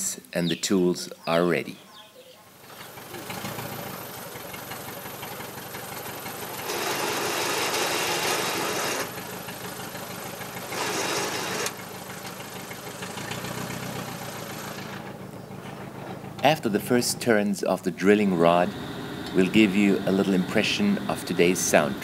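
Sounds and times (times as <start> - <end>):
drilling rig engine hum: 2.6 - 22.0.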